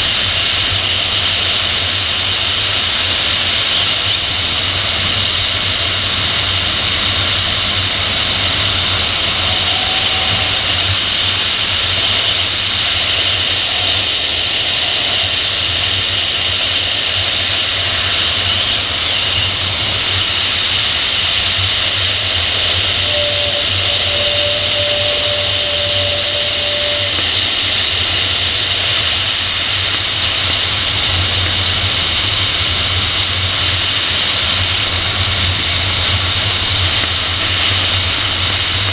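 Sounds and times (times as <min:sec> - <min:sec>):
airflow rushing: 0:03.0 - 0:38.8.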